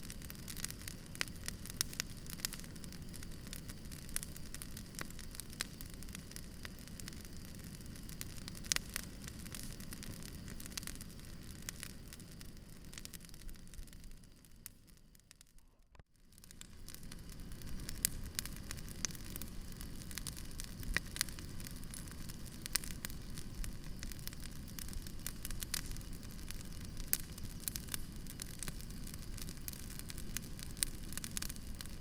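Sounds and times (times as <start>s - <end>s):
campfire crackling and popping: 0.0s - 32.0s
low rumble of flames: 0.0s - 32.0s.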